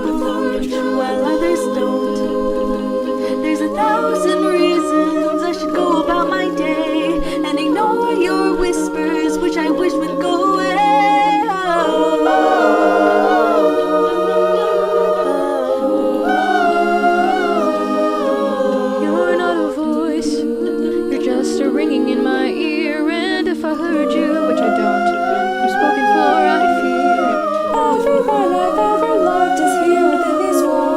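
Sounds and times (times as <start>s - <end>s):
voices singing a cappella: 0.0s - 30.9s.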